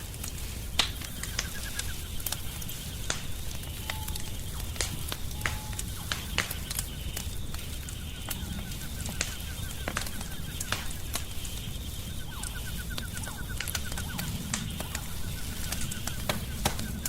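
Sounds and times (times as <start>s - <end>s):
wood fire crackling: 0.0s - 17.0s
high chirping: 0.6s - 17.0s.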